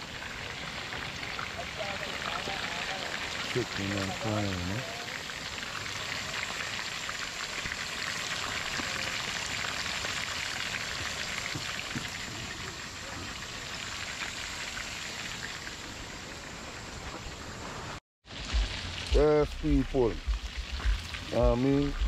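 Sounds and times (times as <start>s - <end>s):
deep-frying crackling sizzle: 0.0s - 22.0s.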